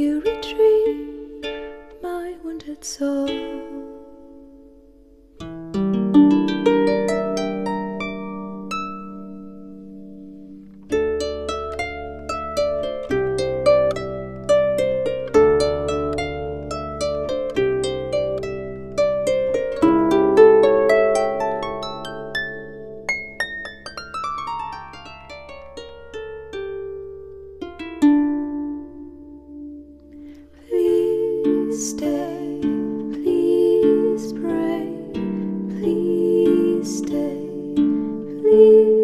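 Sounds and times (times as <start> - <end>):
plucked-string background music: 0.0 - 39.0.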